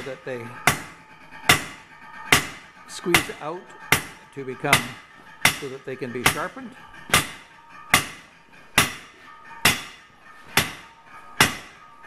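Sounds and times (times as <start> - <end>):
hammer striking hot steel on anvil: 0.0 - 12.0.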